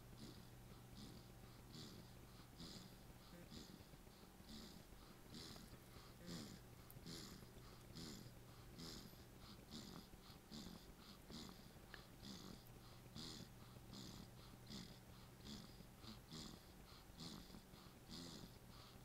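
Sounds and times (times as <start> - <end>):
baby snoring faintly: 0.0 - 19.0.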